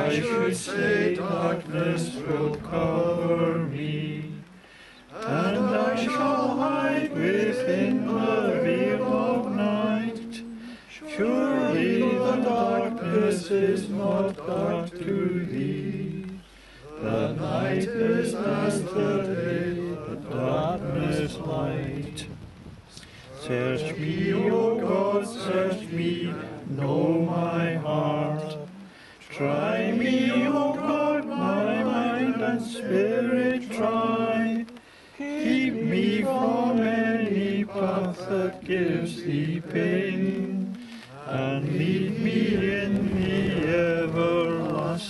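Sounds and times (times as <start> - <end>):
group singing a hymn: 0.0 - 45.0.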